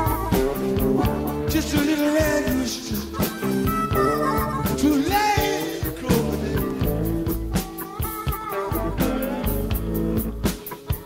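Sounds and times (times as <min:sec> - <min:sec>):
drum and cymbal strokes: 0:00.0 - 0:11.0
rock band playing blues: 0:00.0 - 0:11.0.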